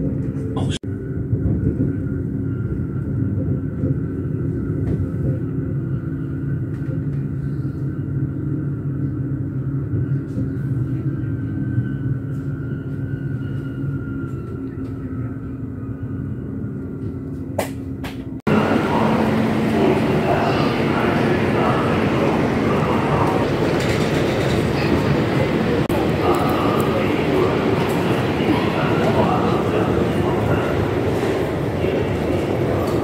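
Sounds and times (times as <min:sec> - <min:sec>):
train rumble with high whine: 0:00.0 - 0:33.0.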